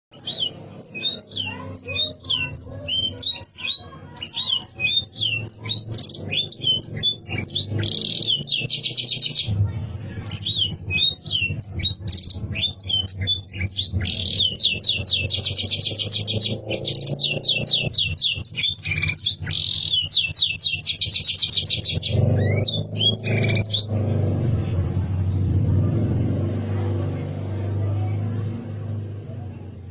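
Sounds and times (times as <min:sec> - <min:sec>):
canary singing with trills: 0:00.1 - 0:29.9.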